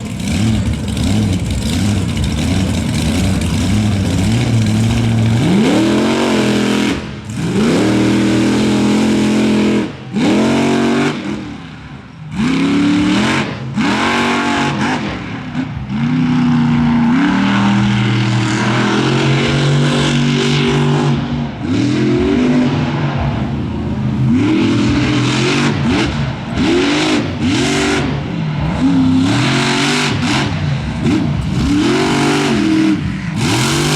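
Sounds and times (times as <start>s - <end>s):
truck engine revving hard: 0.0s - 33.9s.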